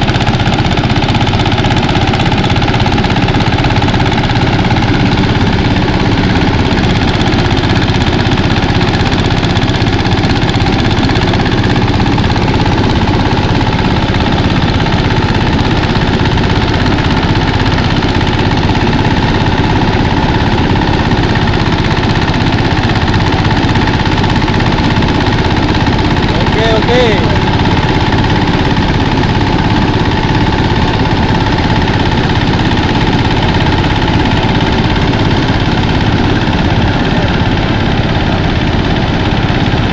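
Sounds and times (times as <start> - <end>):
rice thresher running: 0.0 - 39.9.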